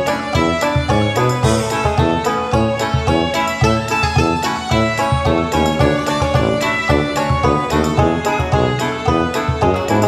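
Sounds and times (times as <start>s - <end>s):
background music with plucked strings: 0.0s - 10.0s.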